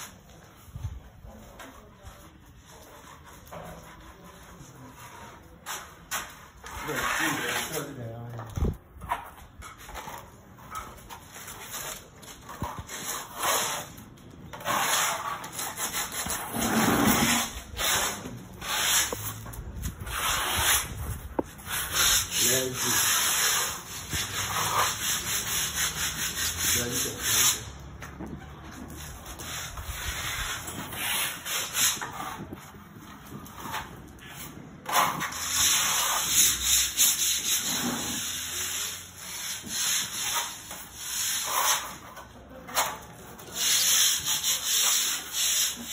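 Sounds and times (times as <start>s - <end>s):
trowel scraping plaster on wall: 0.0s - 45.9s.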